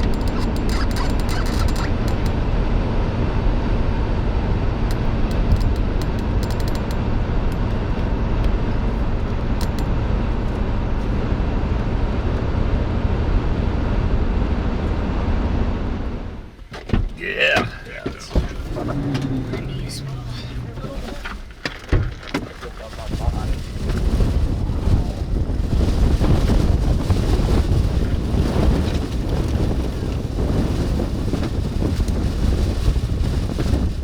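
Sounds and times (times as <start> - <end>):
vehicle road and engine noise: 0.0 - 34.0.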